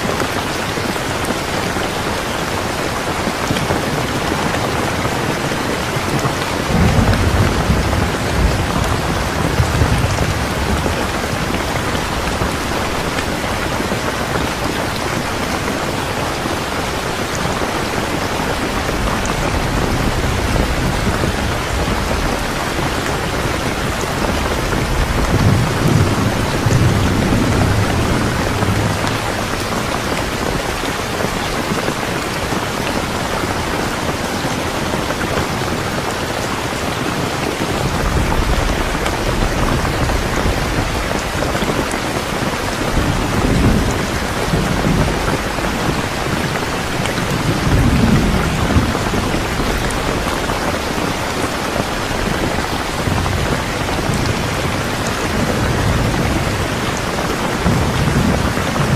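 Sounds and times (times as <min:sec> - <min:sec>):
steady rain: 0:00.0 - 0:58.9
thunder rumbling: 0:03.7 - 0:34.1, 0:34.8 - 0:58.9.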